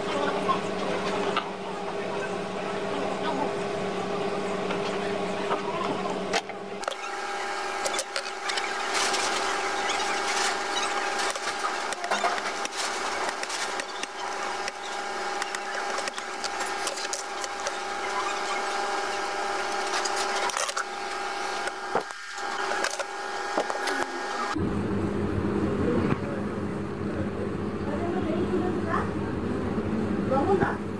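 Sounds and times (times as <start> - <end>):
steady hum: 0.0 - 30.9.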